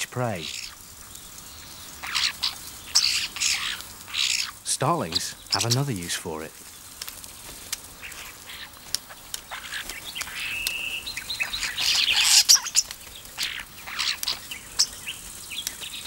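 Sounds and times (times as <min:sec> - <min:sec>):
starlings calling: 0:00.0 - 0:07.0, 0:07.8 - 0:16.0.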